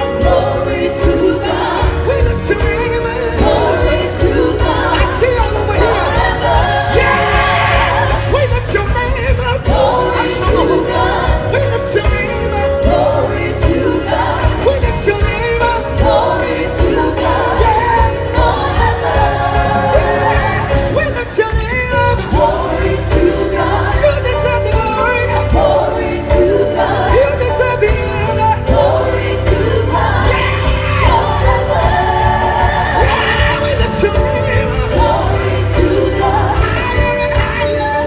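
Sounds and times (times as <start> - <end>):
band with bass and drums: 0.0 - 38.0
gospel choir singing: 0.0 - 38.0.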